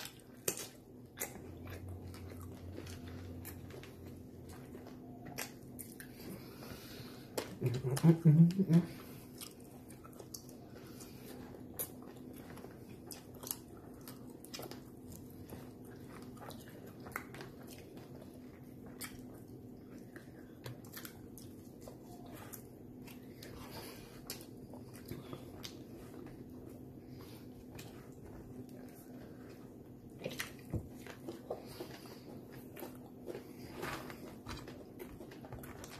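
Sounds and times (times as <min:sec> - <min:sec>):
faint steady hum: 0:00.0 - 0:35.9
person chewing and smacking: 0:00.0 - 0:35.9.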